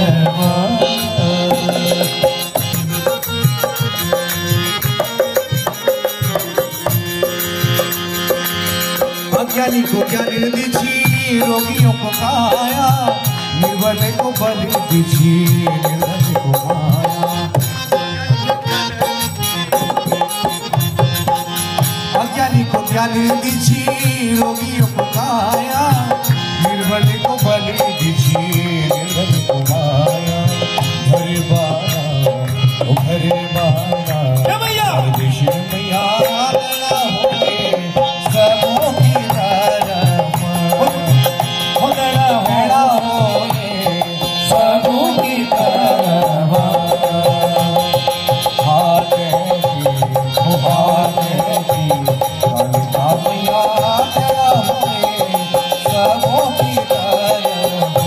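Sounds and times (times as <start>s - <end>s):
hand drum rhythm: 0.0s - 58.0s
harmonium melody: 0.0s - 58.0s.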